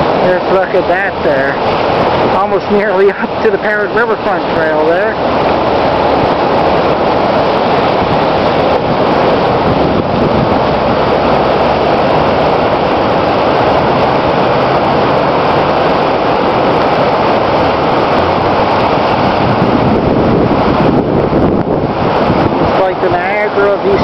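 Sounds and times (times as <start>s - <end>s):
river rushing over rapids: 0.0s - 24.0s.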